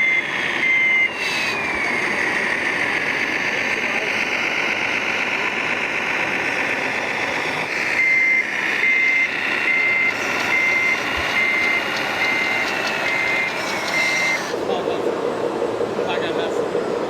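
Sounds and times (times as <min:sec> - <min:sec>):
reversing beeper: 0:00.0 - 0:17.0
rough steady buzz: 0:00.0 - 0:17.0.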